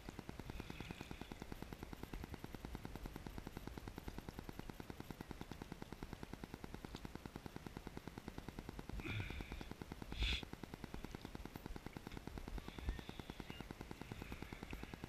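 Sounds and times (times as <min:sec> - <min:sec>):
rapid even ticking: 0:00.0 - 0:15.0.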